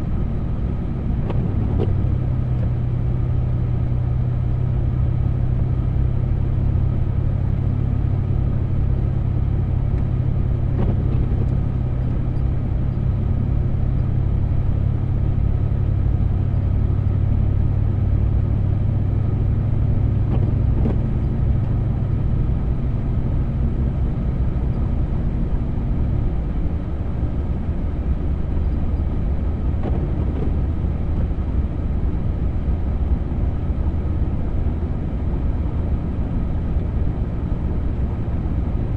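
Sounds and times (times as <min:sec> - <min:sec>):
vehicle driving through snow: 0:00.0 - 0:38.9.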